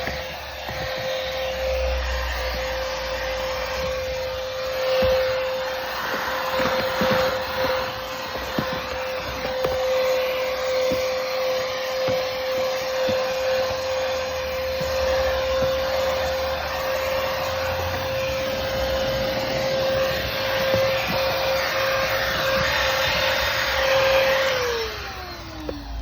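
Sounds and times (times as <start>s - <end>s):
handheld vacuum running: 0.0s - 26.0s.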